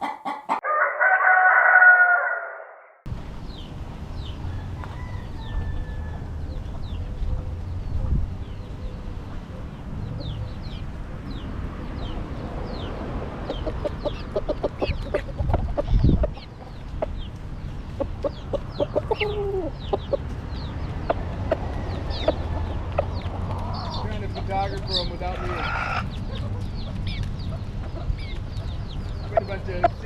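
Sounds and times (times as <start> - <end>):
chickens clucking: 0.0 - 0.8, 4.7 - 30.0.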